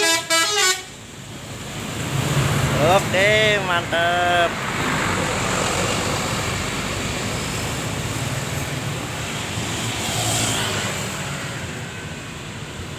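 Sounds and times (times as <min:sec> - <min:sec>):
passing vehicle engine and tyres: 0:00.8 - 0:12.9.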